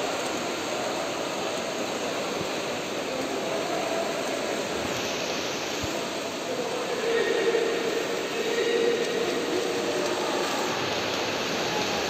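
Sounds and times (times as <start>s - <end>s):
indoor pool hall din: 0.0s - 12.0s
swimmers splashing: 0.0s - 12.0s.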